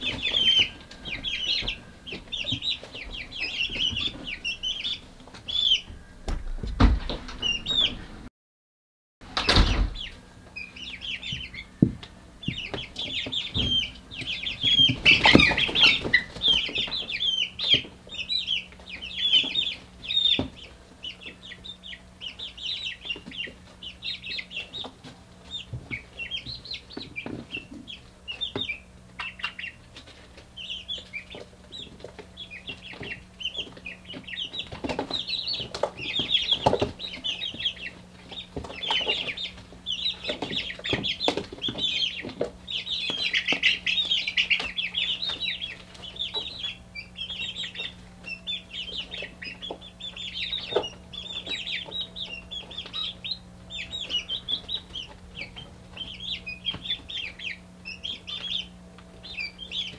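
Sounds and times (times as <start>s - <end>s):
chicks peeping: 0.0s - 8.3s, 9.2s - 59.9s
steady low hum: 0.0s - 8.3s, 9.2s - 59.9s.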